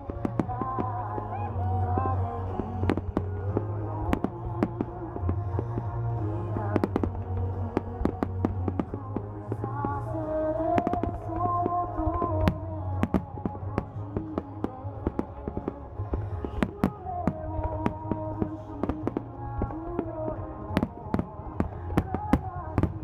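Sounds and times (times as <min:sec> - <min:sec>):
fireworks bangs and crackles: 0:00.0 - 0:23.0
music with singing voice: 0:00.0 - 0:23.0.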